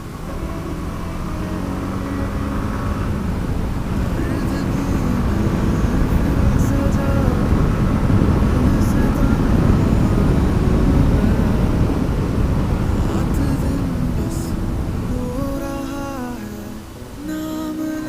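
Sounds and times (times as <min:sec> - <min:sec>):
road and wind noise: 0:00.0 - 0:17.3.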